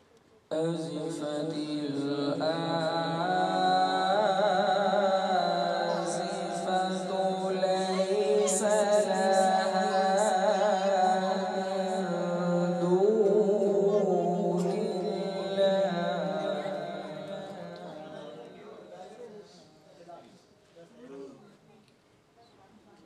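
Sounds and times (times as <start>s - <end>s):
man reciting melodically: 0.4s - 19.9s.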